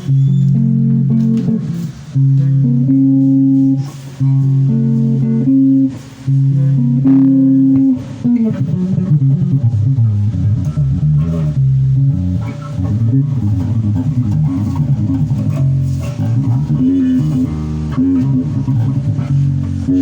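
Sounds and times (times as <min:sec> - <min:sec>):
bass guitar notes: 0:00.0 - 0:20.0.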